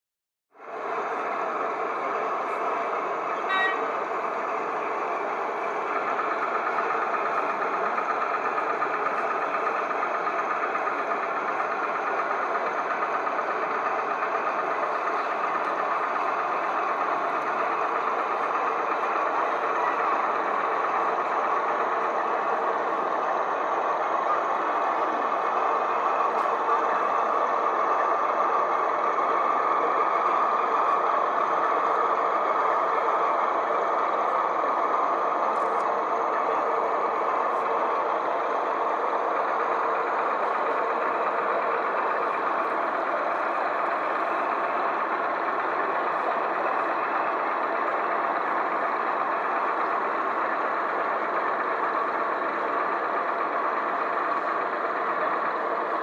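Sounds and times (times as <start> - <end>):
model train diesel engine sound: 0.5 - 56.0.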